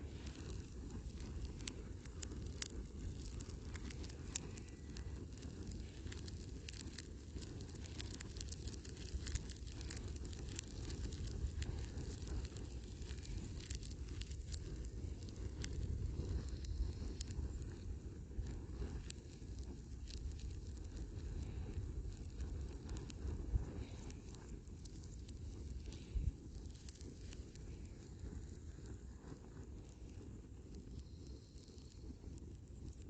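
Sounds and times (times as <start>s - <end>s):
fire crackling and popping: 0.0s - 33.0s
low fire rumble: 0.0s - 33.0s.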